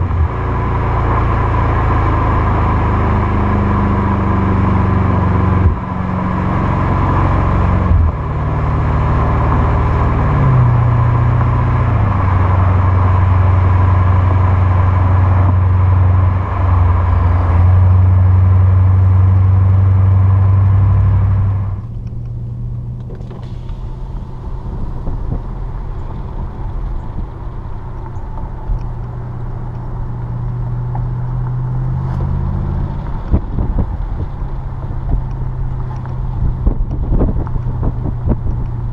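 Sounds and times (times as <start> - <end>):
car exhaust engine note: 0.0 - 38.9.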